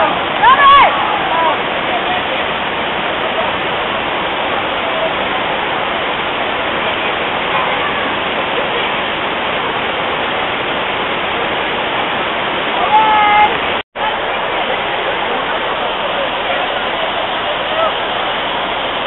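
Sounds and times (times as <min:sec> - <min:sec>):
faint voices: 0:00.0 - 0:10.0, 0:12.7 - 0:19.0
waterfall rushing over rocks: 0:00.0 - 0:19.0.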